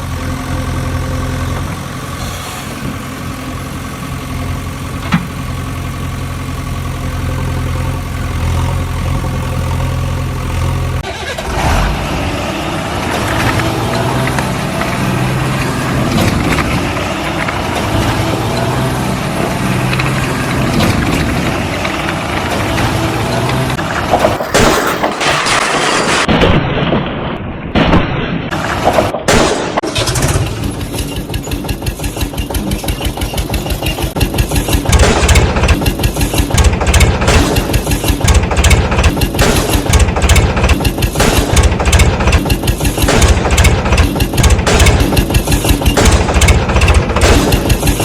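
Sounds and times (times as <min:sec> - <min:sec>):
vehicle engine running: 0:00.0 - 0:25.4, 0:29.9 - 0:48.0.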